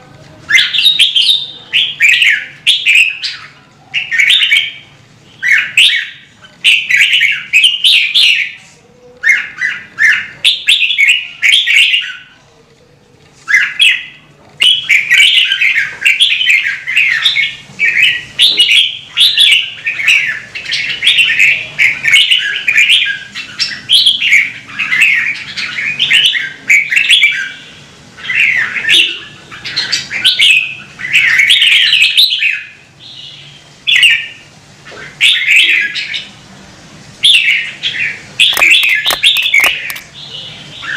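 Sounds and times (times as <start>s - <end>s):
bird singing warbled phrases: 0.4s - 12.4s, 13.4s - 36.4s, 37.2s - 40.9s.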